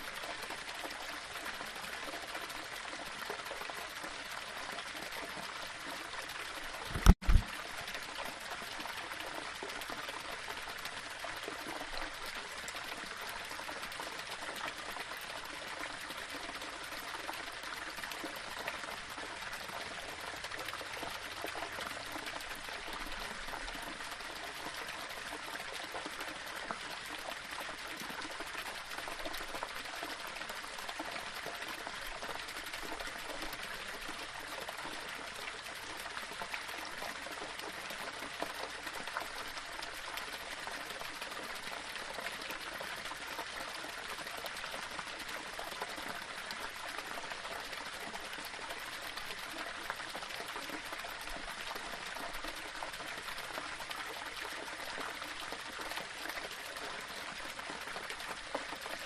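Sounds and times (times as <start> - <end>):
waterfall splashing over stones: 0.0 - 59.0.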